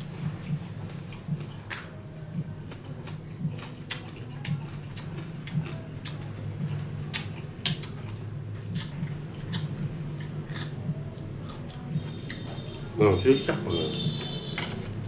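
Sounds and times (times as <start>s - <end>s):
person chewing and crunching: 0.0s - 12.8s.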